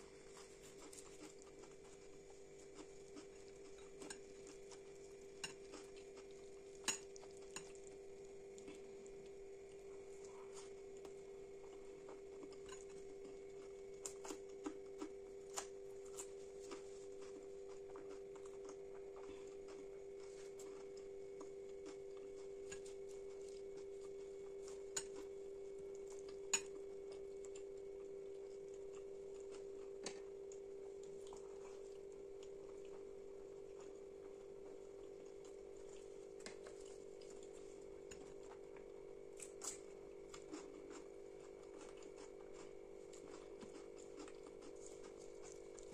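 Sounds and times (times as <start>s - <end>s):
soft chewing: 0.0s - 45.9s.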